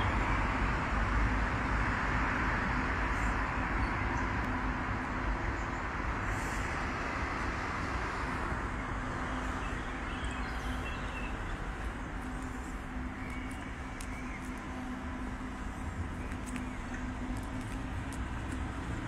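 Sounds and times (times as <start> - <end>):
road traffic rush: 0.0 - 19.0.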